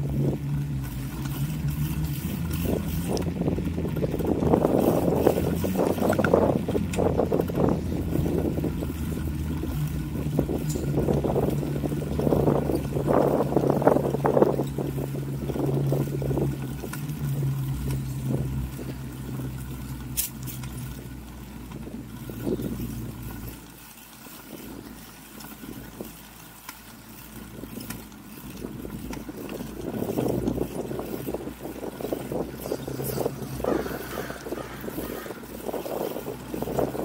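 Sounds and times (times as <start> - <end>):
wind buffeting microphone: 0.0 - 23.7, 27.1 - 37.0
bicycle rolling over concrete: 0.0 - 37.0.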